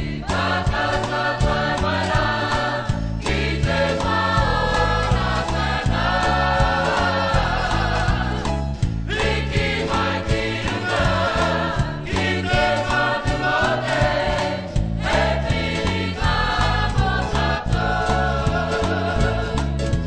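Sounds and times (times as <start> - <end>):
choir singing: 0.0 - 20.0
steady bass beat: 0.0 - 20.0.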